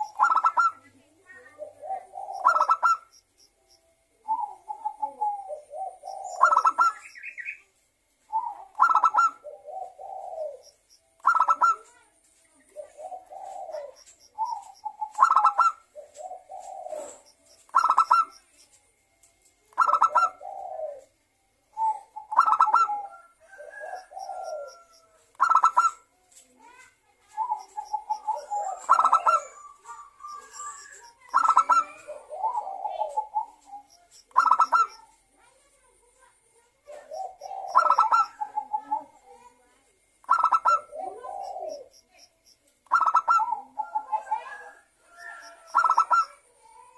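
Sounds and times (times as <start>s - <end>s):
dove cooing: 0.0s - 3.2s, 4.1s - 7.6s, 8.2s - 18.6s, 19.7s - 35.3s, 36.8s - 46.9s.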